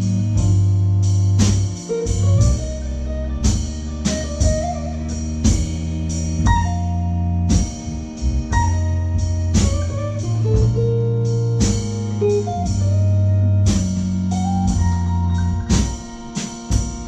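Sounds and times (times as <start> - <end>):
drums: 0.0 - 17.0
organ: 0.0 - 17.0.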